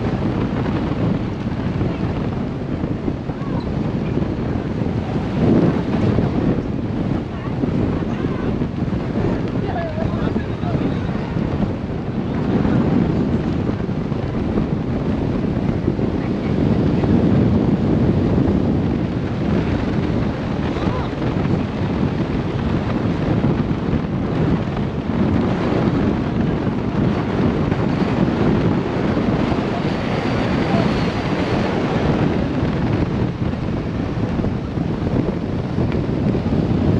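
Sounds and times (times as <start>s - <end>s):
boat moving through water: 0.0s - 36.9s
wind rushing over microphone: 0.0s - 36.9s.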